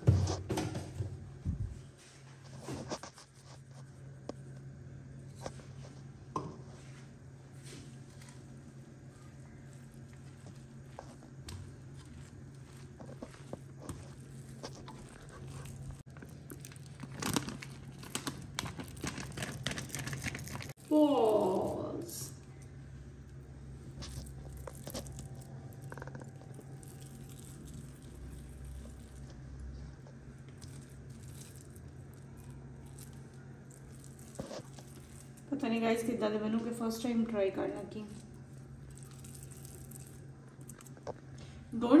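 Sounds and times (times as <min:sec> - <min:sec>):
steady low hum: 0:00.0 - 0:42.0
hand squishing wet dough: 0:01.8 - 0:42.0.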